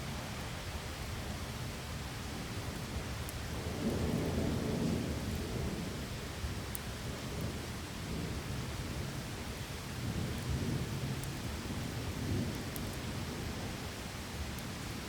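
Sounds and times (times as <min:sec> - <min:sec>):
heavy rain: 0:00.1 - 0:15.0.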